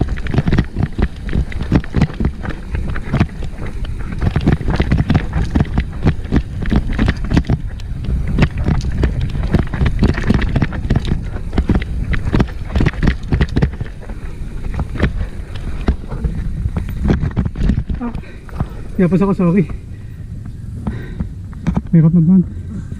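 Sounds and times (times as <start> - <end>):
bike rattling over rocks: 0.0 - 22.0
wind buffeting microphone: 0.0 - 22.9.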